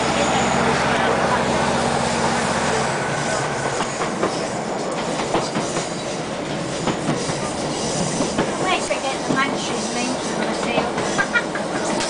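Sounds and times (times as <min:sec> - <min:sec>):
train rumble and rush: 0:00.0 - 0:12.0.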